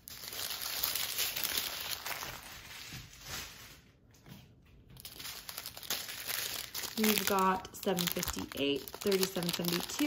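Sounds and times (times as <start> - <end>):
plastic bags crinkling: 0.0 - 3.8, 5.0 - 10.0.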